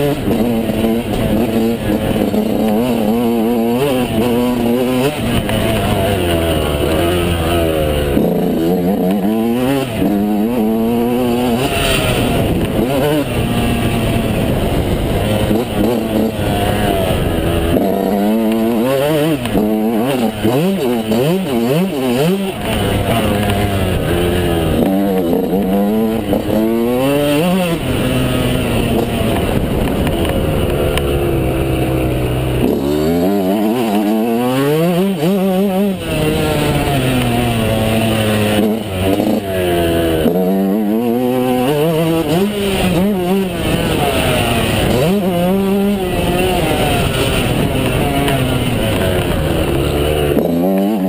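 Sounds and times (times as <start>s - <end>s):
two-stroke motorcycle engine revving: 0.0s - 51.0s.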